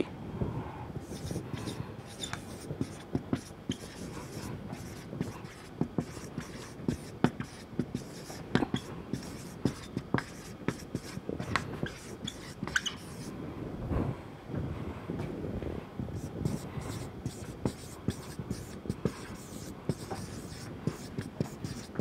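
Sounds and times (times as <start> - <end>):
marker writing on a whiteboard: 1.0 - 13.3, 16.1 - 22.0.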